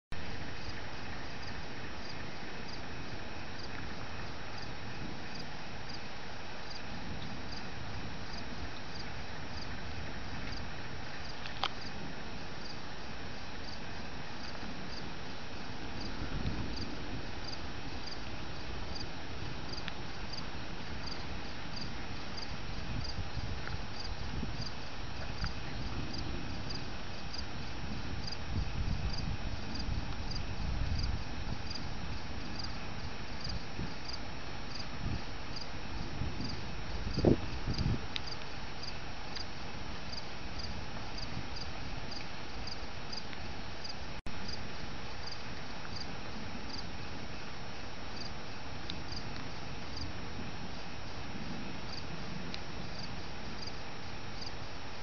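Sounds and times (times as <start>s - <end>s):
crickets chirping: 0.2s - 55.0s.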